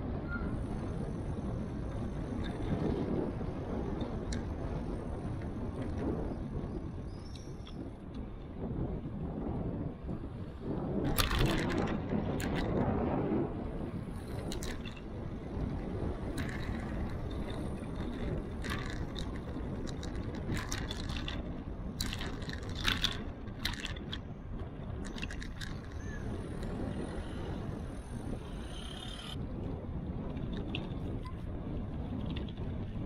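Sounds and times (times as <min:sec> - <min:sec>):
road rumble: 0:00.0 - 0:33.0
wind: 0:00.0 - 0:33.0
bicycle clicks and rattles: 0:00.2 - 0:33.0.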